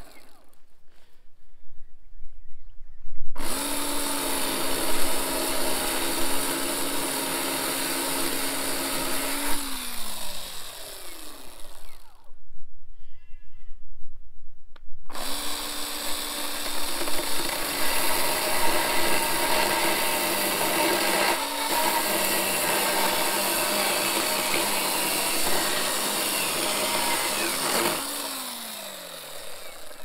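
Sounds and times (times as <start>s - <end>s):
chainsaw cutting wood: 0.0s - 0.6s, 3.4s - 12.3s, 15.1s - 30.0s.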